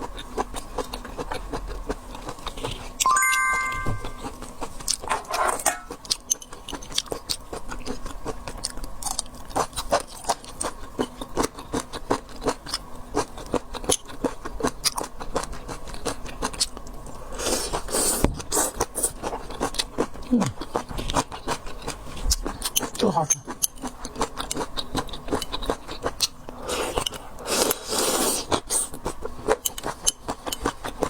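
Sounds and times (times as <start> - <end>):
chewing and crunching: 0.0 - 3.0, 5.9 - 31.0.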